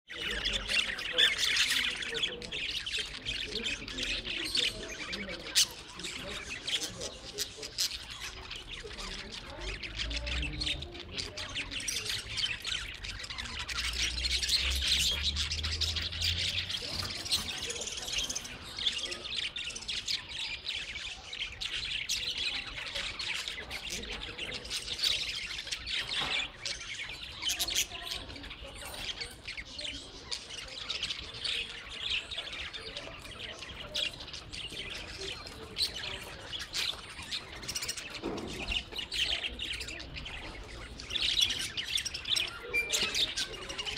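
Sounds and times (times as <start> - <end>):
parrots chattering: 0.1 - 43.9.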